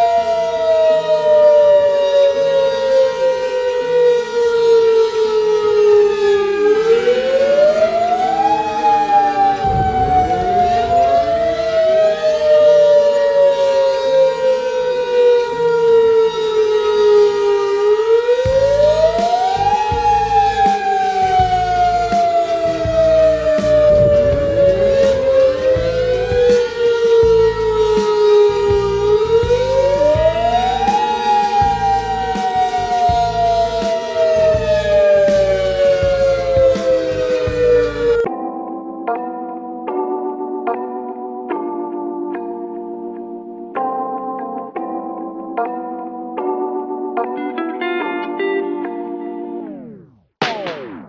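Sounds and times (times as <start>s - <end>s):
warning siren gliding tone: 0.0s - 38.4s, 48.4s - 51.0s.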